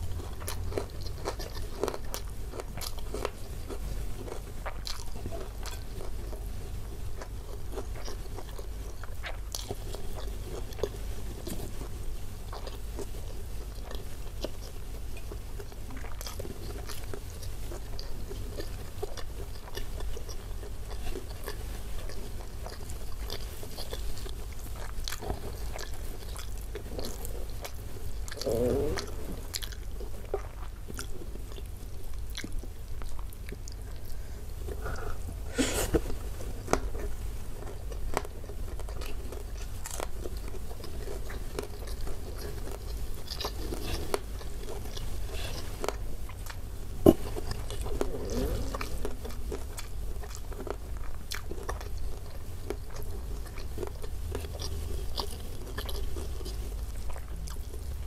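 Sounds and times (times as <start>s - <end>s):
close chewing: 0.0s - 58.0s.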